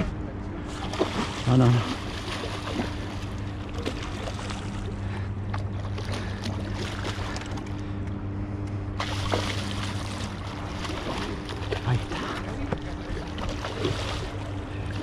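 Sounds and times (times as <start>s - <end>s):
boat motor humming: 0.0s - 15.0s
water noise: 0.6s - 15.0s.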